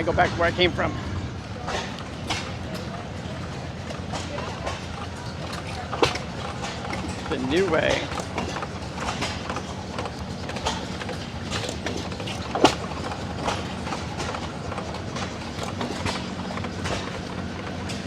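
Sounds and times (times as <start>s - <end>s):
gas engines chugging: 0.0s - 18.0s
engine knocks and pops: 1.6s - 18.0s.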